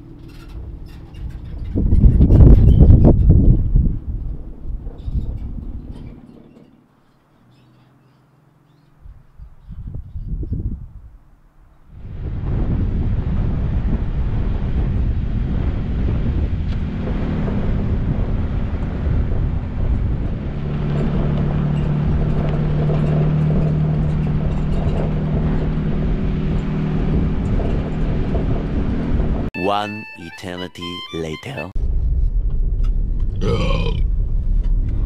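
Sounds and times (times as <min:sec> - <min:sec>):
wind rushing over microphone: 0:00.0 - 0:06.4, 0:09.0 - 0:11.2, 0:11.9 - 0:29.6, 0:31.8 - 0:35.0
low engine hum: 0:00.0 - 0:29.6, 0:31.8 - 0:35.0.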